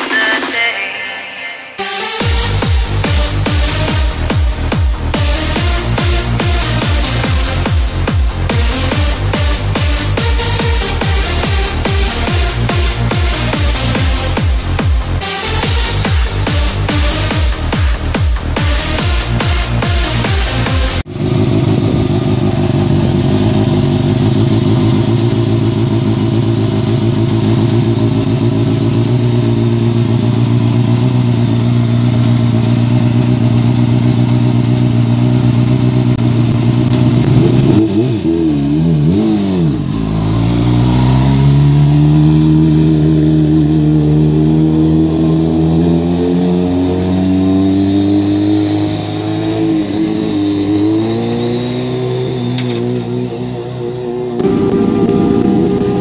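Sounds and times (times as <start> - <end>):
motorcycle engine revving: 2.1 - 56.0.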